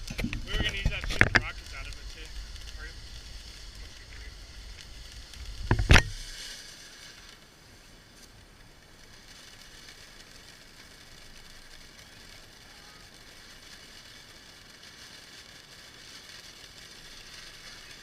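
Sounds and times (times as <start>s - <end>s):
firework fountain hissing: 0.0s - 18.0s.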